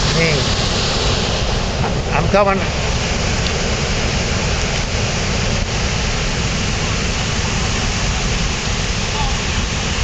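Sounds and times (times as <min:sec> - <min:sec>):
water pouring over waterfall: 0:00.0 - 0:10.0.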